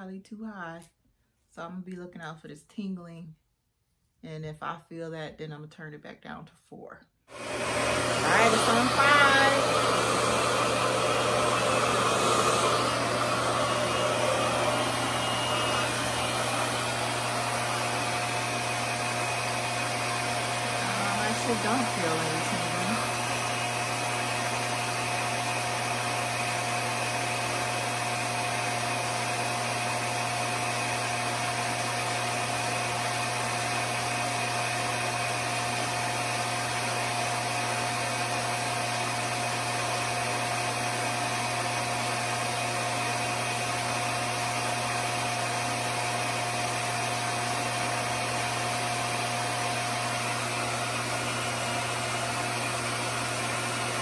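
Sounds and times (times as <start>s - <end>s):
hair dryer running: 7.3s - 54.0s.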